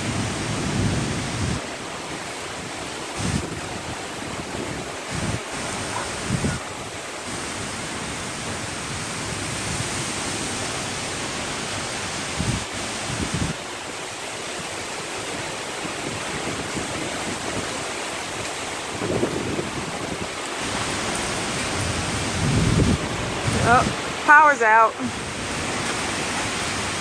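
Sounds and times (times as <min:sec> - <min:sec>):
heavy rain hiss: 0:00.0 - 0:27.0
wind buffeting microphone: 0:00.0 - 0:27.0.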